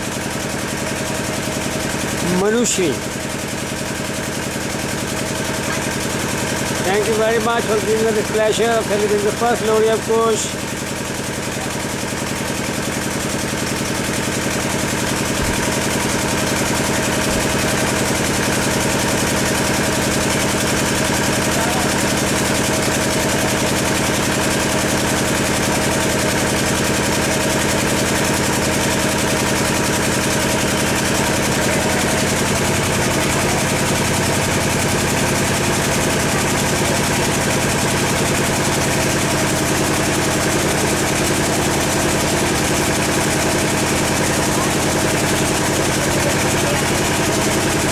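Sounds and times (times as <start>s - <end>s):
steady mechanical hum: 0.0s - 47.9s.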